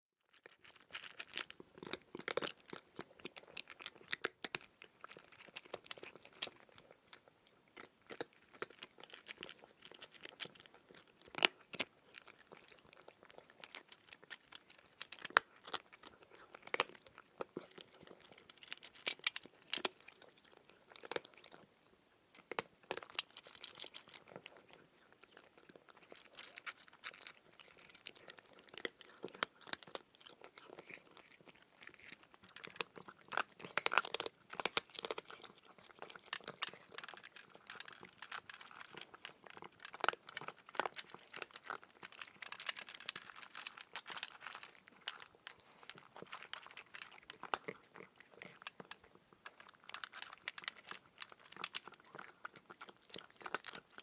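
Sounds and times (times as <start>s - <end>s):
cat crunching dry kibble: 0.3s - 54.0s.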